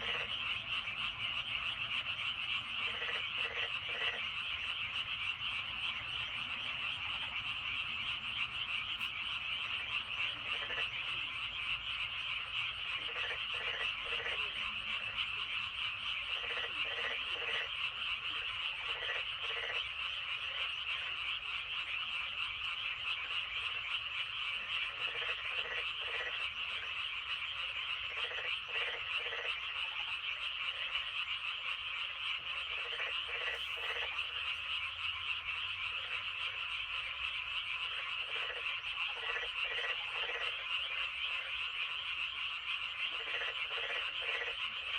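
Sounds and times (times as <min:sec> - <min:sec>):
chorus of frogs trilling: 0:00.0 - 0:44.9
low frog croaks: 0:00.0 - 0:44.9.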